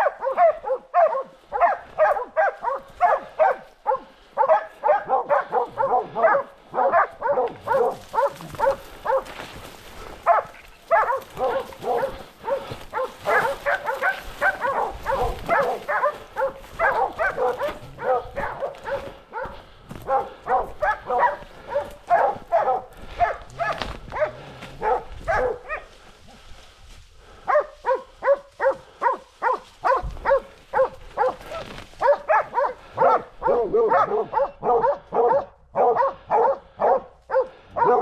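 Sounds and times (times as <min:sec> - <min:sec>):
dogs barking rapidly: 0:00.0 - 0:26.0, 0:27.3 - 0:38.0.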